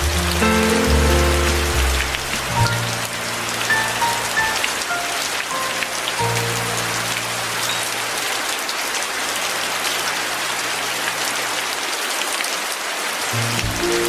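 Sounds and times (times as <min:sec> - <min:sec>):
rain pattering on surfaces: 0:00.0 - 0:14.0.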